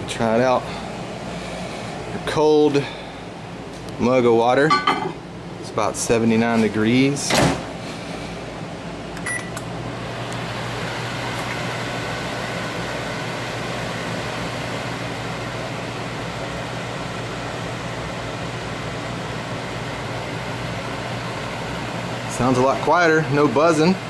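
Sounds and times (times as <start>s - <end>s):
microwave humming: 0.0s - 24.0s.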